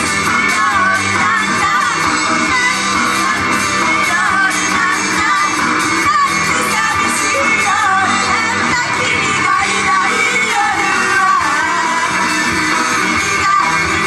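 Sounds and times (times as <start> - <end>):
pop backing music: 0.0 - 14.0
women singing live: 0.0 - 14.0.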